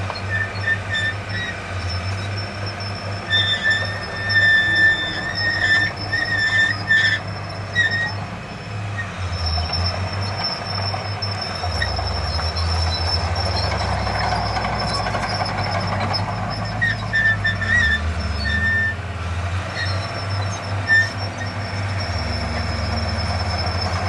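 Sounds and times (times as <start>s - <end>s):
high metallic squeal: 0.0s - 8.3s, 9.0s - 19.0s, 19.7s - 24.0s
heavy diesel engine running: 0.0s - 24.0s.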